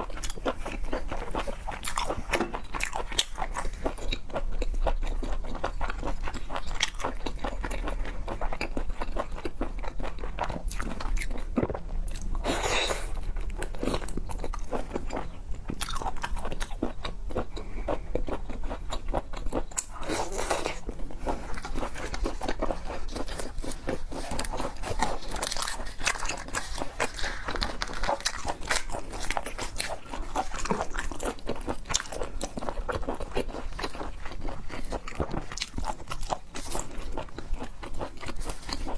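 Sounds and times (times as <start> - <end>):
chewing and crunching seafood: 0.0 - 38.9.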